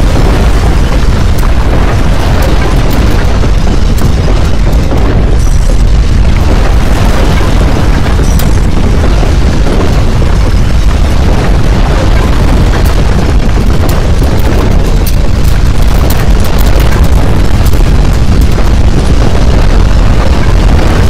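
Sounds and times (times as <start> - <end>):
crackles and rattles: 0.0 - 21.0
deep earthquake rumbling: 0.0 - 21.0.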